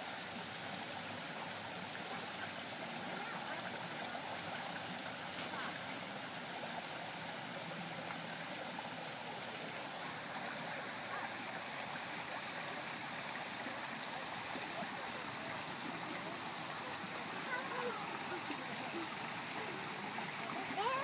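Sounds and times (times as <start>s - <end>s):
water splashing over stones: 0.0s - 21.0s.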